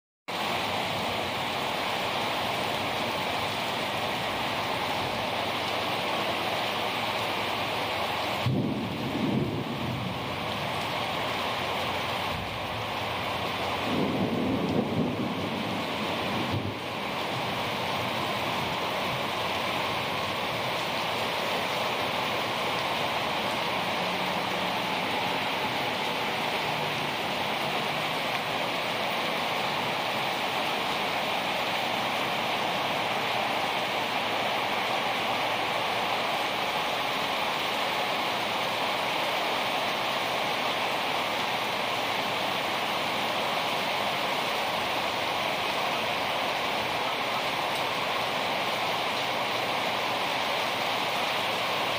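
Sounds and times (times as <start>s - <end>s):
heavy rain pouring: 0.3s - 51.9s.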